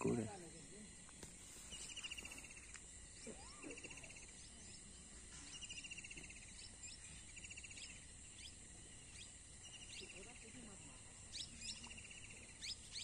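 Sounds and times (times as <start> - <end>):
bird chirps: 1.6 - 10.4, 11.3 - 13.0.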